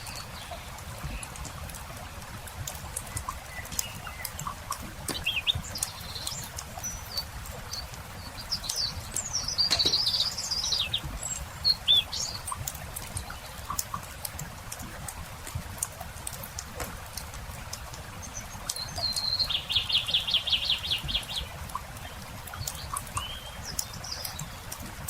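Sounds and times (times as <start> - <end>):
small birds chirping: 0.0 - 15.0, 16.3 - 25.0.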